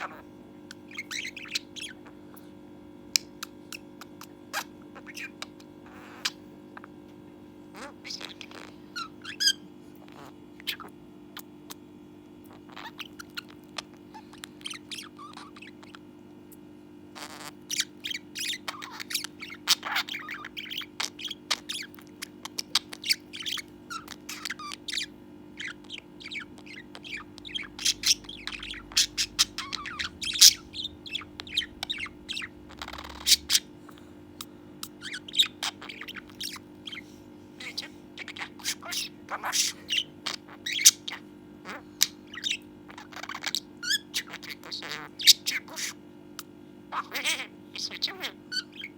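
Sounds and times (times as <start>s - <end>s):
budgerigar chirping and warbling: 0.0s - 2.2s, 3.1s - 7.0s, 7.7s - 11.8s, 12.5s - 16.1s, 17.2s - 48.9s.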